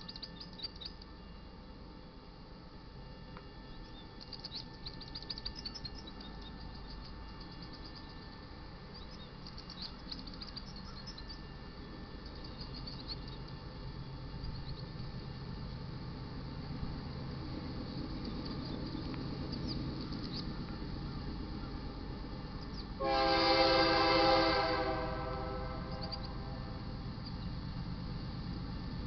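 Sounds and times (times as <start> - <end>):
small songbirds chirping: 0.0 - 2.4, 3.0 - 23.0, 25.7 - 29.0
low steady rumble: 0.0 - 29.0.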